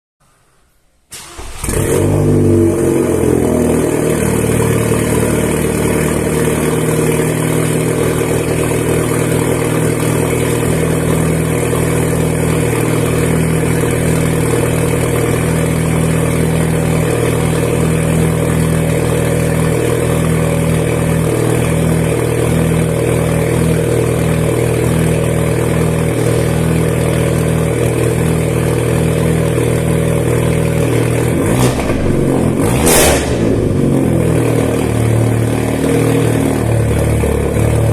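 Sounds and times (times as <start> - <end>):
car engine revving: 1.2 - 37.9
loud car engine idling: 2.6 - 37.9.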